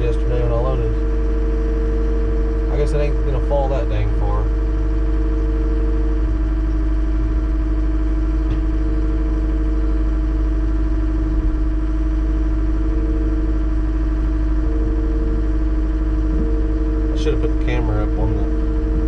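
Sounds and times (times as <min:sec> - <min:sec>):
loader diesel engine running: 0:00.0 - 0:19.0.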